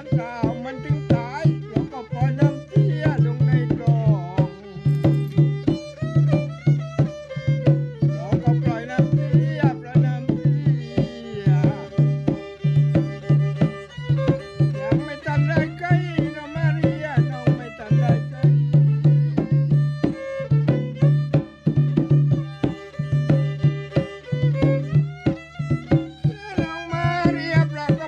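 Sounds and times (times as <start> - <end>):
hand drum beat: 0.0 - 28.0
violin melody: 0.0 - 28.0.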